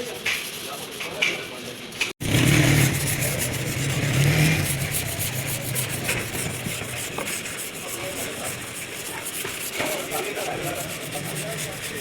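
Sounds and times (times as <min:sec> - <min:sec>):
sanding rubbing on metal: 0:00.0 - 0:12.0.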